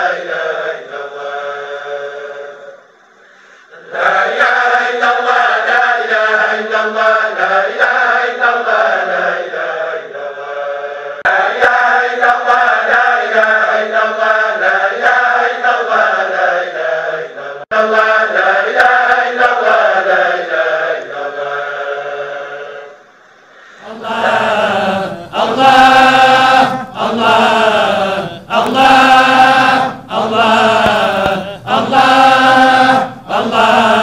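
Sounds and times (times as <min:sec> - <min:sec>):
group chanting rhythmically: 0:00.0 - 0:02.6, 0:03.7 - 0:34.0.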